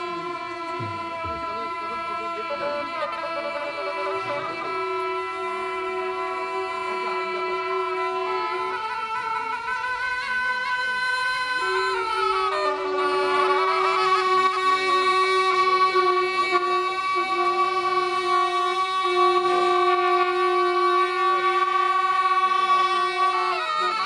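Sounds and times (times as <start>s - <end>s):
shawms playing reedy drone: 0.0s - 24.0s.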